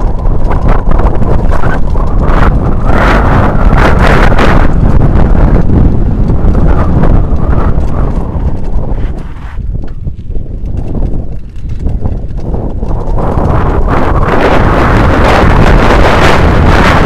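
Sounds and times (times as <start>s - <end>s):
bicycle rattling and knocking: 0.0s - 17.0s
wind buffeting microphone: 0.0s - 17.0s.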